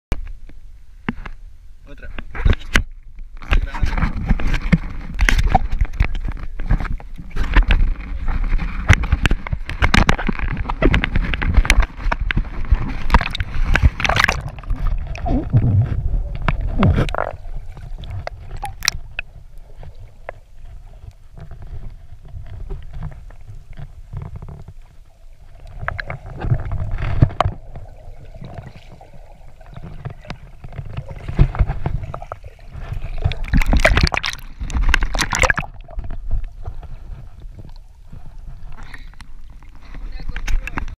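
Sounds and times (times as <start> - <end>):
muffled underwater rumble: 0.2 - 40.9
water sloshing and gurgling: 2.2 - 40.9
water splashing: 4.0 - 40.9.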